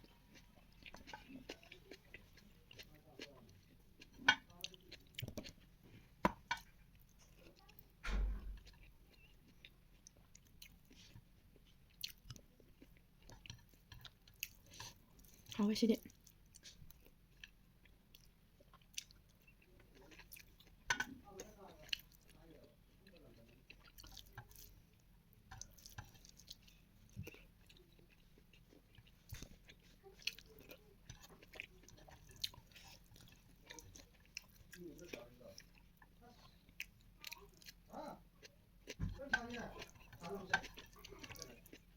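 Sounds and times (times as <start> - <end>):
person chewing: 0.0 - 7.8, 8.4 - 22.4, 23.0 - 41.9.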